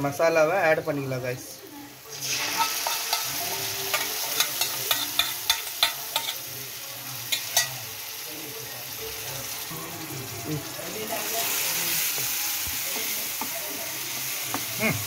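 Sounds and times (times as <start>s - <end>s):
marinade sizzling in a frying pan: 0.0s - 15.0s.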